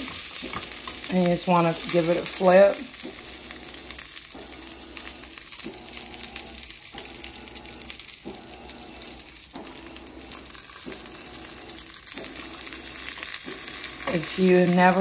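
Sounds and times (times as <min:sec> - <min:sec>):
sausage sizzling in a skillet: 0:00.0 - 0:15.0.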